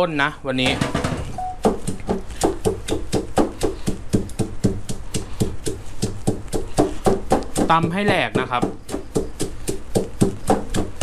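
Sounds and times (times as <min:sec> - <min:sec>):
stone pestle pounding in mortar: 0:00.6 - 0:11.0.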